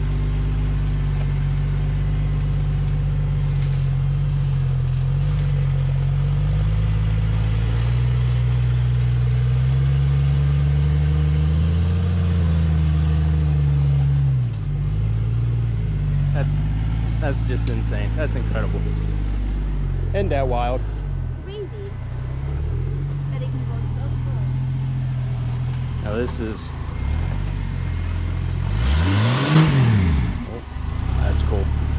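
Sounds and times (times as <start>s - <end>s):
off-road engine at low revs: 0.0s - 31.9s.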